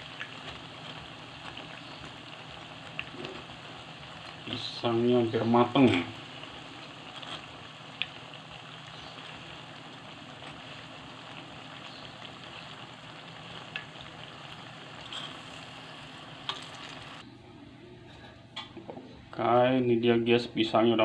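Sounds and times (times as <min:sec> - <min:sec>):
food sizzling in hot oil: 0:00.0 - 0:17.2.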